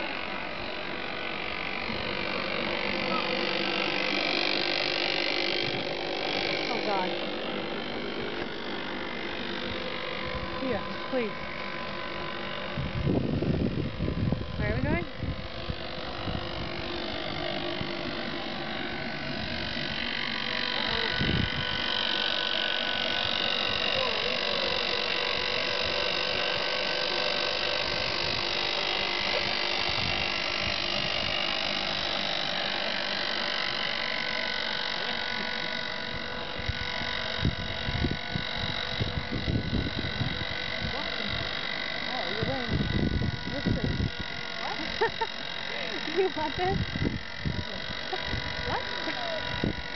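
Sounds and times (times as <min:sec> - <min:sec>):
electric winch motor whining: 0:00.0 - 0:49.9.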